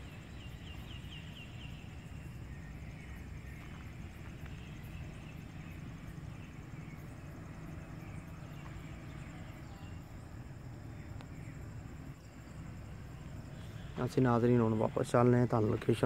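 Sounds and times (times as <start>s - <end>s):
constant low rumble: 0.0s - 16.0s
insects chirping trill: 0.0s - 16.0s.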